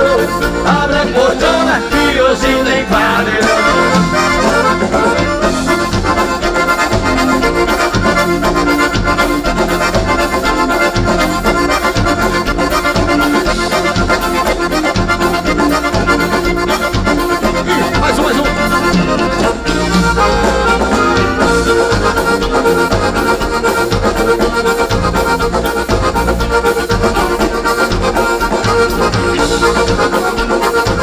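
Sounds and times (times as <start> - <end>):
accordion: 0.0 - 31.0
live band playing dance music: 0.0 - 31.0.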